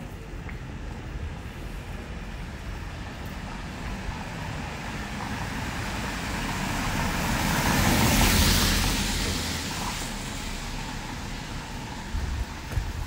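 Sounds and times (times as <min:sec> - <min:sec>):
cars passing: 0:00.0 - 0:13.0
vehicle approaching: 0:01.4 - 0:13.0.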